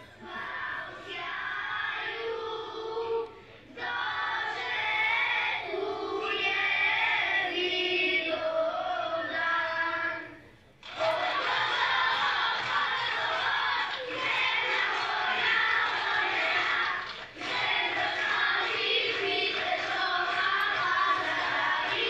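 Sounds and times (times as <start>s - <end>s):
choir singing long notes: 0.0s - 22.0s.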